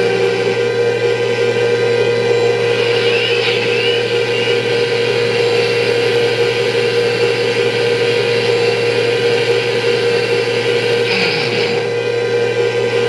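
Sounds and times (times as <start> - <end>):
tank engine sound effect through speaker: 0.0 - 11.9.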